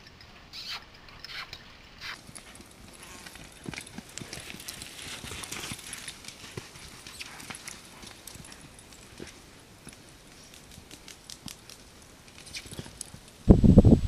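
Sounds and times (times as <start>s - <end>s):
horse hooves thudding on dirt: 0.7s - 13.4s.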